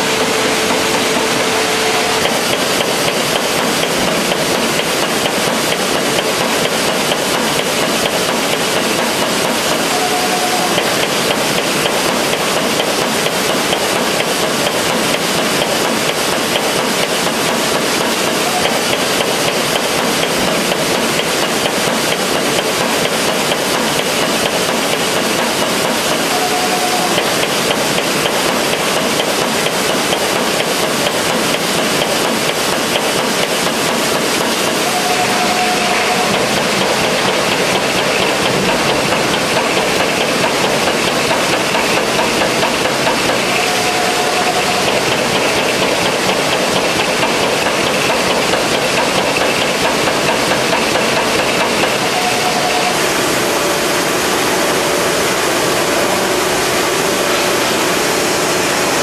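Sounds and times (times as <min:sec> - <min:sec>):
creasing machine clattering: 0:00.0 - 0:59.0.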